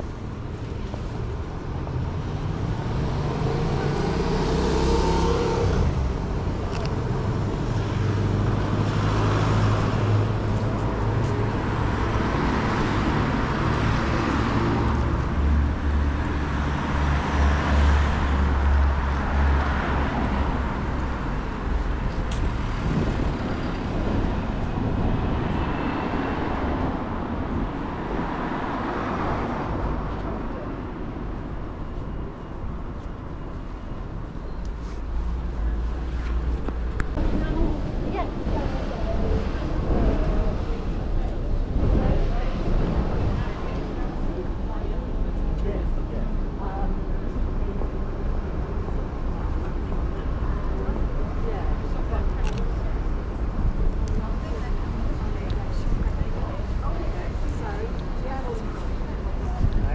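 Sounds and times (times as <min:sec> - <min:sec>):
cars passing: 0:00.0 - 0:59.9
street noise: 0:00.0 - 0:59.9.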